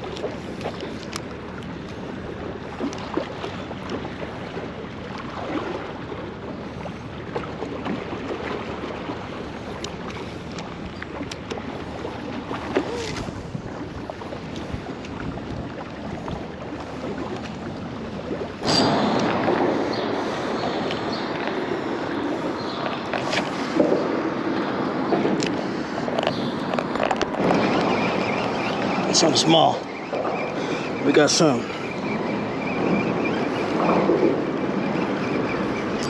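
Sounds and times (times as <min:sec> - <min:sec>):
water lapping: 0:00.0 - 0:36.0
wind: 0:00.0 - 0:36.0.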